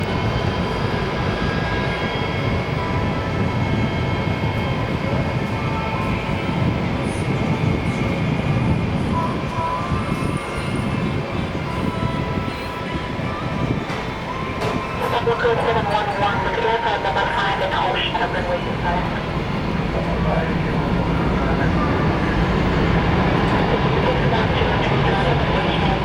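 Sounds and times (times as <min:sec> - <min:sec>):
jet engines rumbling and whining: 0:00.0 - 0:26.0.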